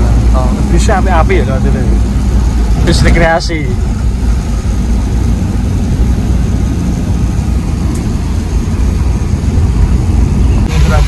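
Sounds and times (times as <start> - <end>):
tyre road noise: 0.0 - 11.0
van engine rumble: 0.0 - 11.0.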